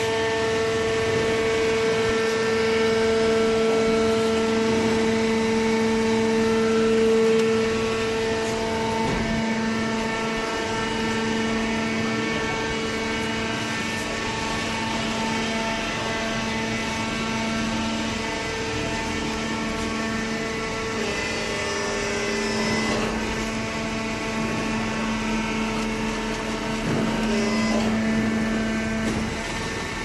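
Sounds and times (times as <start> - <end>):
hydraulic pump hum with whine: 0.0 - 30.0.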